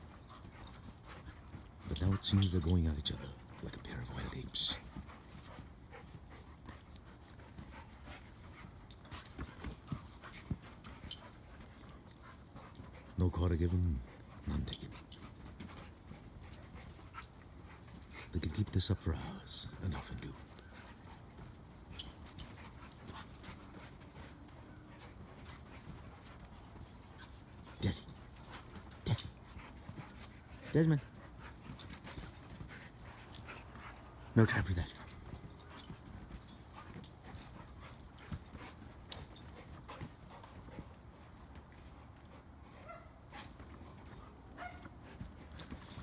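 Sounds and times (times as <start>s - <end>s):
dogs scuffling on trampoline: 0.0s - 46.0s
light clicks and thumps: 0.0s - 46.0s.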